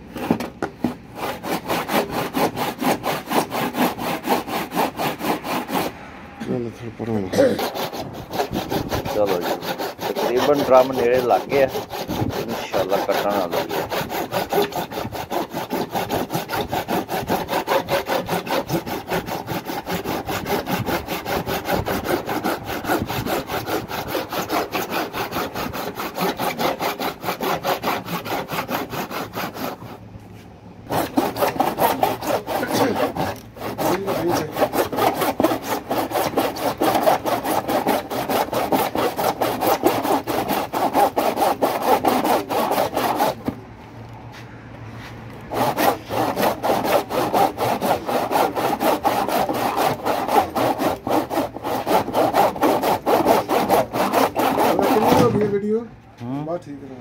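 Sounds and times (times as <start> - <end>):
hand saw cutting plastic: 0.0 - 5.9, 7.3 - 30.0, 30.9 - 43.6, 45.4 - 55.7.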